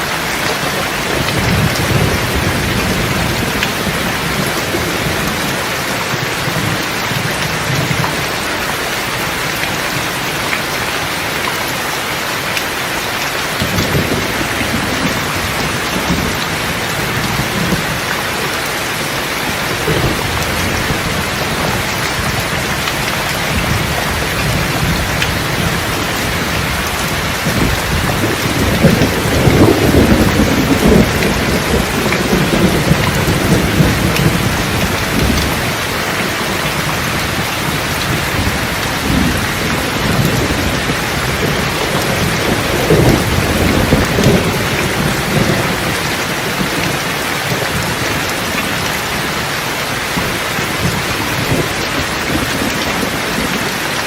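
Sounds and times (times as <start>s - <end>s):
thunder rumbling: 0.0s - 12.2s, 13.6s - 54.0s
heavy rain: 0.0s - 54.0s.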